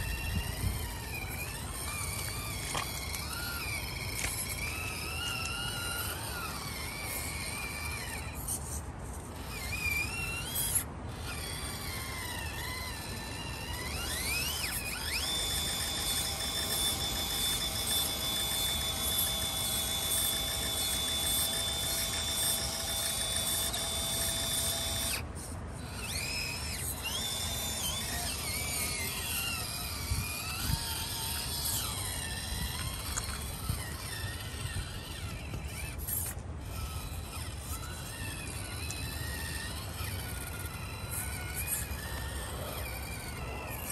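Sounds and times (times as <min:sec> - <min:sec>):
small electric motor whining: 0:00.0 - 0:43.9.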